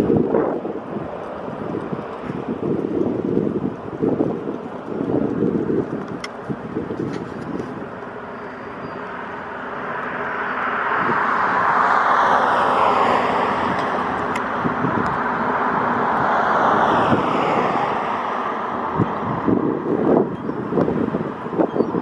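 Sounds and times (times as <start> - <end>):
aircraft engine passing: 0.0 - 22.0.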